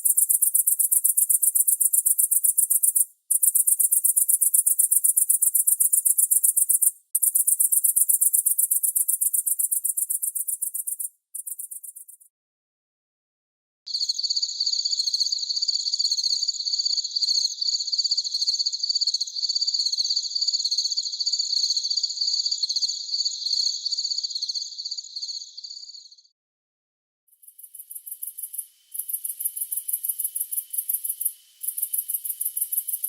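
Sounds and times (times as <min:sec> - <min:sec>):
cricket chirping: 0:00.0 - 0:12.3, 0:13.9 - 0:26.3, 0:27.4 - 0:33.0.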